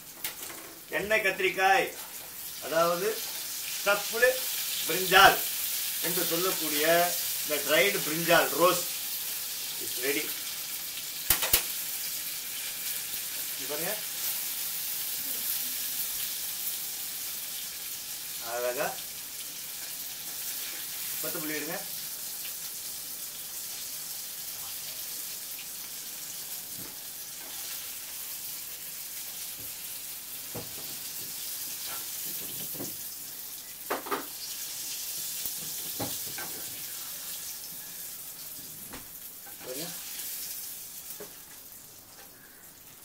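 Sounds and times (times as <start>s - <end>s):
oil sizzling in a pan: 0.0s - 43.0s.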